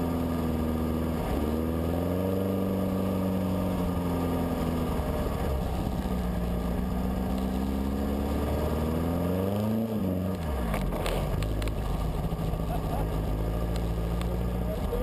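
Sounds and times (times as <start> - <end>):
dune buggy engine running: 0.0 - 15.0.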